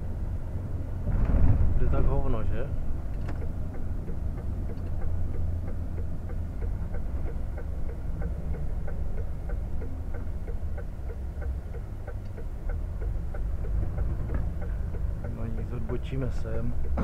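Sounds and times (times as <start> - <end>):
road noise: 0.0 - 17.0
truck diesel engine drone: 0.0 - 17.0
turn signal ticking: 2.8 - 17.0.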